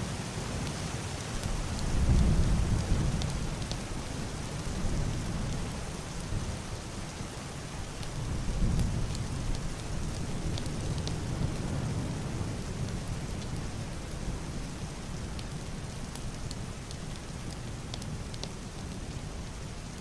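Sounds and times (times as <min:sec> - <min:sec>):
heavy rain on roof and window: 0:00.0 - 0:20.0.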